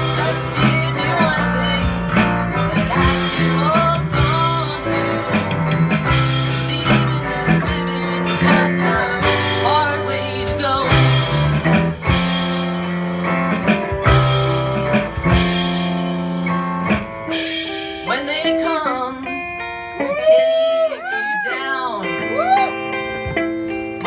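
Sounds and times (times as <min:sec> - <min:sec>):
band playing instrumental music: 0:00.0 - 0:24.0.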